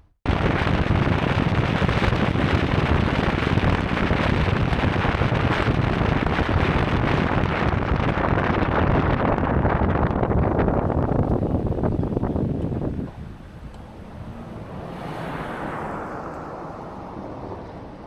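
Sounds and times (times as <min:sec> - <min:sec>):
steady low rushing noise: 0:00.3 - 0:18.0.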